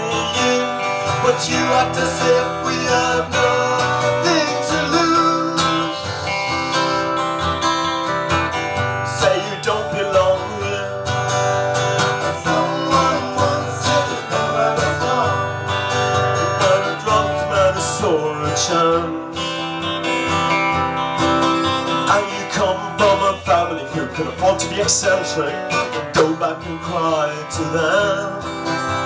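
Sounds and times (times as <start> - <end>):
acoustic guitars playing: 0.0 - 29.0.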